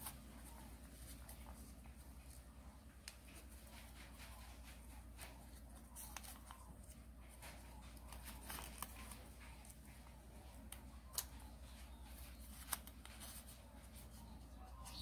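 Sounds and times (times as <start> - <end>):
low steady hum: 0.0 - 15.0
paper rustling and crinkling: 0.0 - 15.0.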